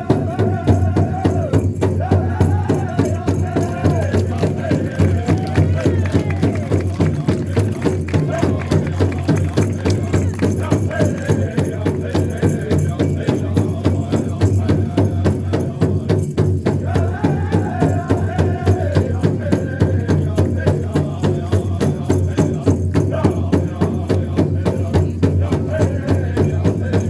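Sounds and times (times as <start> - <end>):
drum beating fast rhythm: 0.0 - 27.0
person singing: 0.0 - 27.0
rattling percussion: 0.0 - 27.0.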